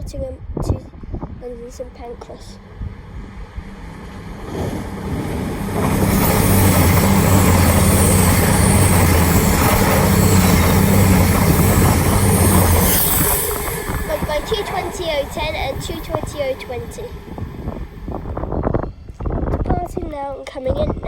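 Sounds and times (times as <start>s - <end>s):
train wheel and air rush: 0.9s - 19.6s
diesel engine drone: 1.1s - 18.8s.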